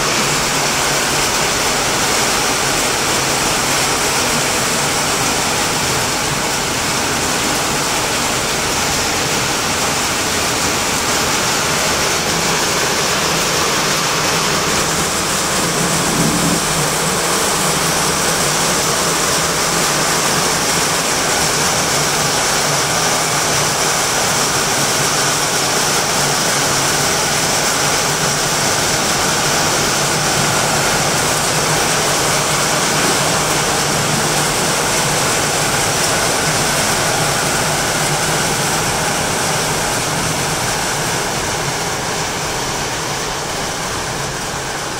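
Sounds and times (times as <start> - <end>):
torrential rain: 0.0 - 44.9.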